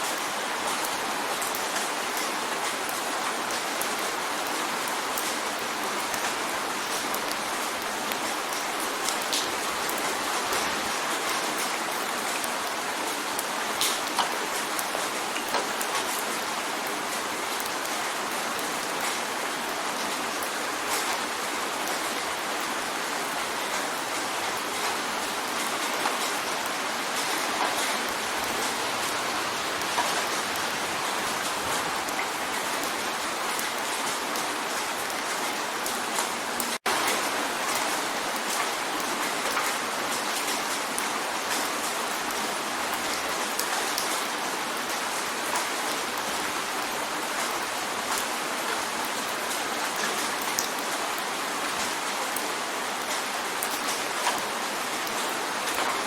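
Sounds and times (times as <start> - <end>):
rain drumming on a window: 0.0 - 56.0.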